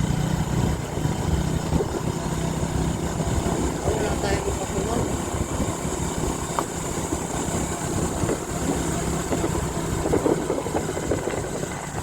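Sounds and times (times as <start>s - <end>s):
motorcycle engine running: 0.0s - 12.0s
rumbling road noise: 0.0s - 12.0s.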